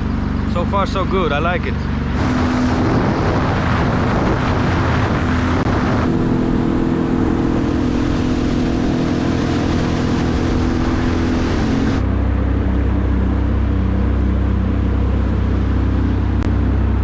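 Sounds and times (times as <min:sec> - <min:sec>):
watercraft engine hum: 0:00.0 - 0:17.0
rush of water and air: 0:01.9 - 0:17.0.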